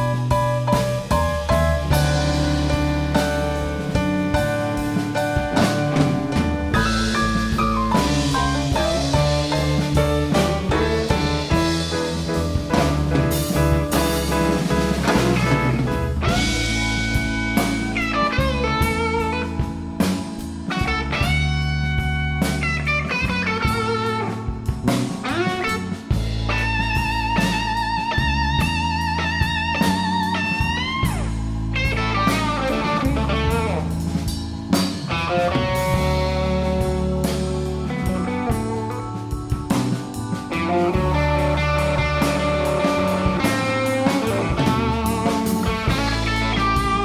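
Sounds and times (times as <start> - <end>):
bass: 0.0 - 47.0
blues electric guitar solo: 0.0 - 47.0
drums: 0.0 - 47.0
keyboard: 0.0 - 47.0.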